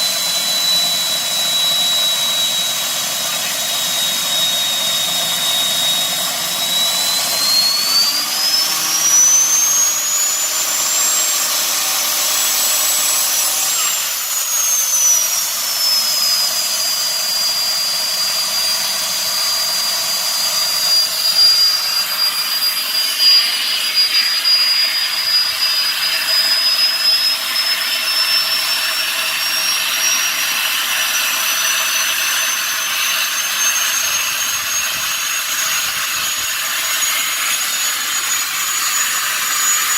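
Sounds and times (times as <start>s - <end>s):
gas turbine engine whine: 0.0s - 39.9s.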